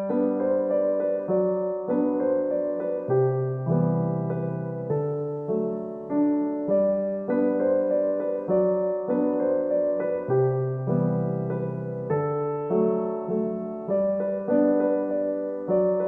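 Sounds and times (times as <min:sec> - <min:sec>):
soft piano tune: 0:00.0 - 0:16.0.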